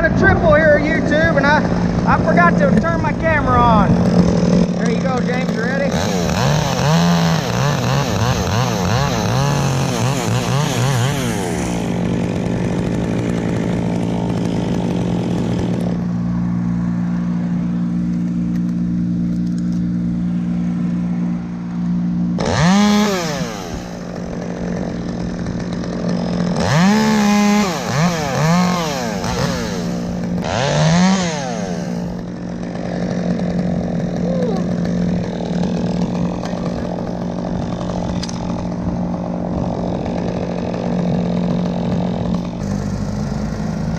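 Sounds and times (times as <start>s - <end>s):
chainsaw idling and revving: 0.0s - 43.9s.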